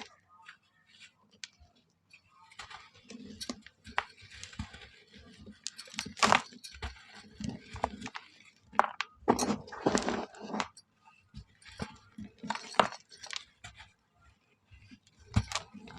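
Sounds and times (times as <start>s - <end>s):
dry mud shapes crumbling: 3.0s - 15.9s.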